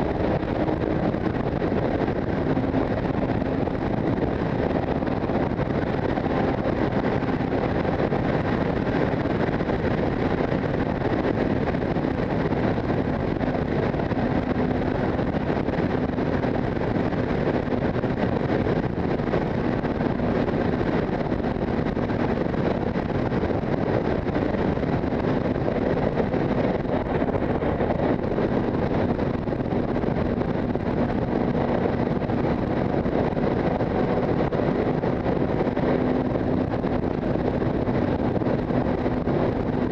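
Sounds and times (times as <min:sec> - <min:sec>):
motorcycle engine hum: 0:00.0 - 0:39.9
wind rushing over microphone: 0:00.0 - 0:39.9.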